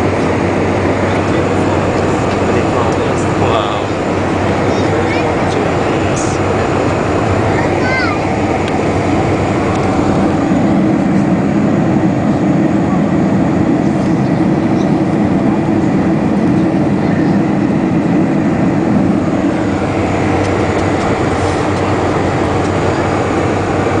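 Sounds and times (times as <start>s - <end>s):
jet airliner cabin rumble: 0.0s - 24.0s.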